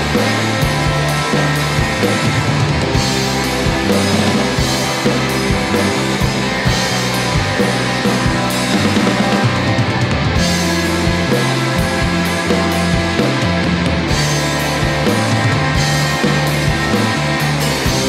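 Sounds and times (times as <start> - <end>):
instrumental post-rock band: 0.0 - 18.0.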